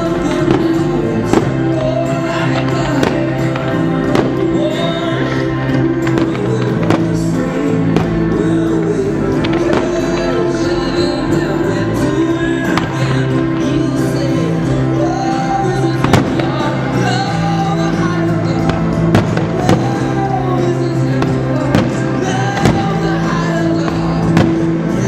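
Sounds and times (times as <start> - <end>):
loud music with held notes: 0.0 - 25.0.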